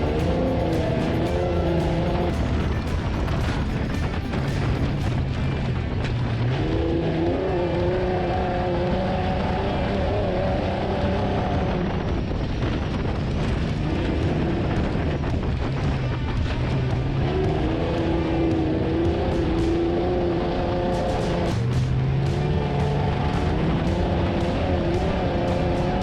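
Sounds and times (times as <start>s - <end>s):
driving noise: 0.0s - 26.0s
race vehicle engine running hard: 0.0s - 26.0s.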